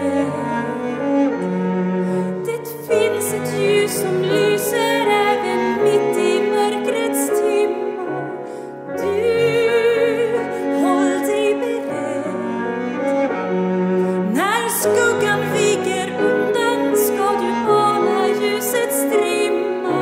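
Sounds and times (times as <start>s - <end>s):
bowed cello melody: 0.0s - 20.0s
grand piano accompaniment: 0.0s - 20.0s.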